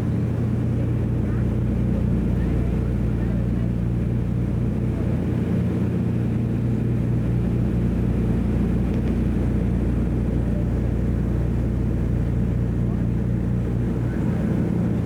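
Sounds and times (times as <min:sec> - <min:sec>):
propeller plane engines droning: 0:00.0 - 0:15.0.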